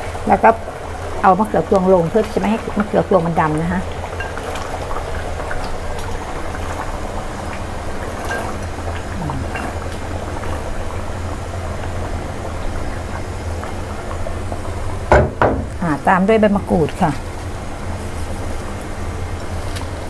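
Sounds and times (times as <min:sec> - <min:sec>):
curry bubbling in a pot: 0:00.0 - 0:20.0
low steady hum: 0:00.0 - 0:20.0.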